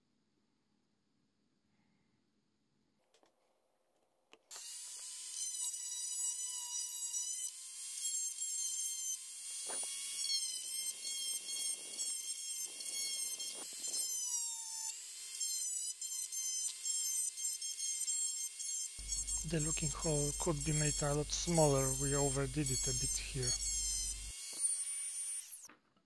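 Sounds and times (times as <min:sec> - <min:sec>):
rotary tool grinding plastic: 0:04.5 - 0:25.7.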